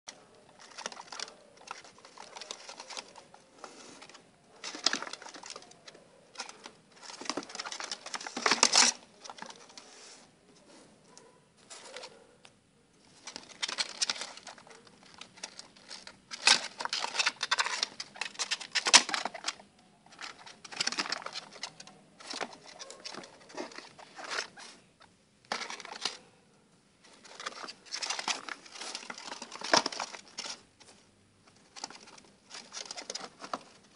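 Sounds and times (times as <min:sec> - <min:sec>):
small animals scurrying on cardboard: 0:00.1 - 0:10.2, 0:13.0 - 0:24.9, 0:27.0 - 0:33.9.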